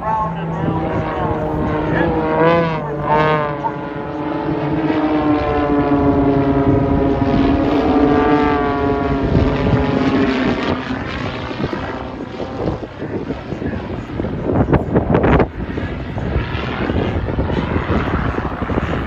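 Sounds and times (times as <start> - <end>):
propeller planes droning overhead: 0.0 - 19.0.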